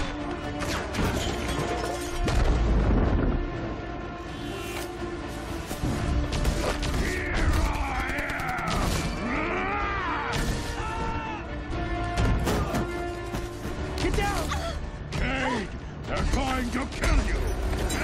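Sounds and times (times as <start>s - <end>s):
orchestral score: 0.0s - 18.0s.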